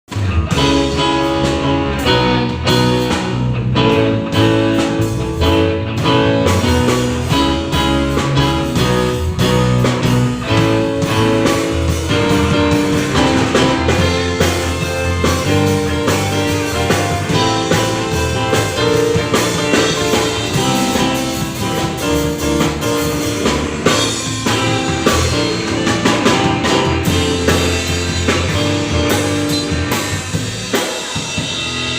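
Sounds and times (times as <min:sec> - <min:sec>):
bass: 0:00.0 - 0:31.9
drum kit beat: 0:00.1 - 0:31.9
electric guitar: 0:00.1 - 0:31.9.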